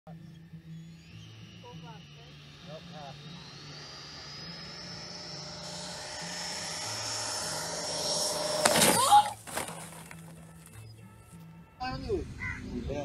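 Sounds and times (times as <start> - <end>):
model jet whining: 0.2 - 10.9.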